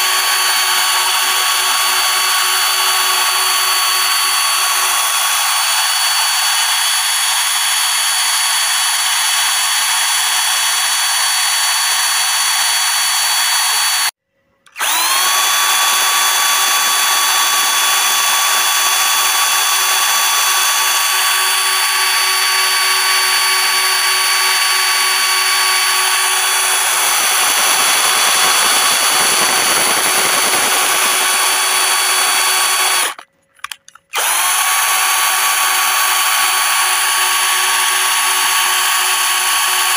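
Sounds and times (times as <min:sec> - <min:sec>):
electric drill whining: 0:00.0 - 0:33.3, 0:34.1 - 0:39.9.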